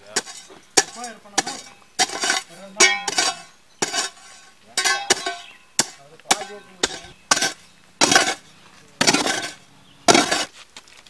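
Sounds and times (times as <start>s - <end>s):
hoe chopping stony soil: 0.0s - 11.0s.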